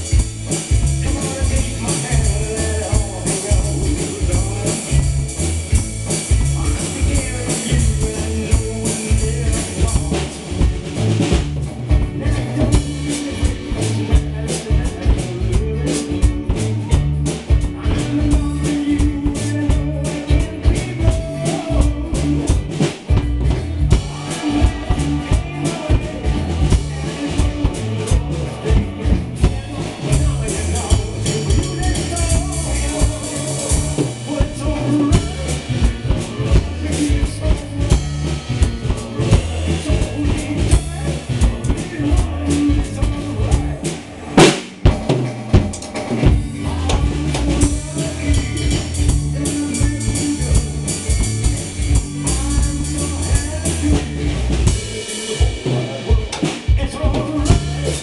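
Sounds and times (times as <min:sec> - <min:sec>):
drum kit rock beat: 0:00.0 - 0:58.0
recorded rock song with guitar: 0:00.0 - 0:58.0.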